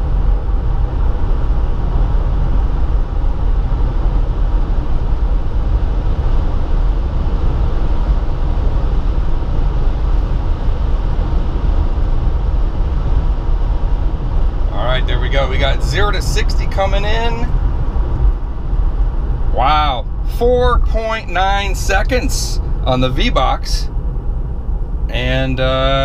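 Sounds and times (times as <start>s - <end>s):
tyre and wind noise in car cabin: 0.0s - 26.0s.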